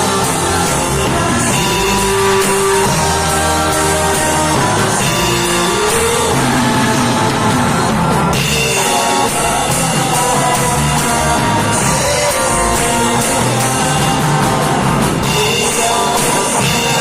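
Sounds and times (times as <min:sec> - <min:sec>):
electric guitar: 0:00.0 - 0:17.0
rock band playing: 0:00.0 - 0:17.0.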